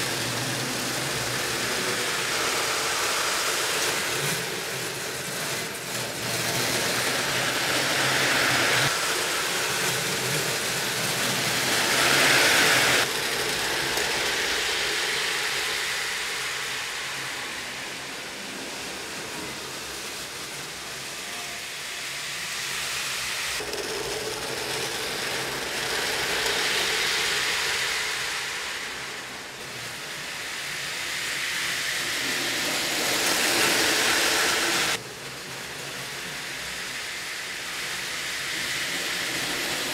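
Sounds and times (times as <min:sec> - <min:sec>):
wheels rolling on plastic track: 0:00.0 - 0:16.9, 0:22.6 - 0:39.9.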